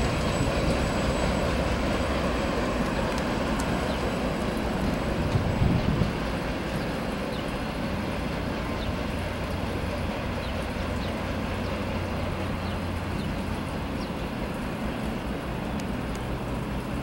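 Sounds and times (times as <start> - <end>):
freight train cars rolling: 0.0 - 17.0.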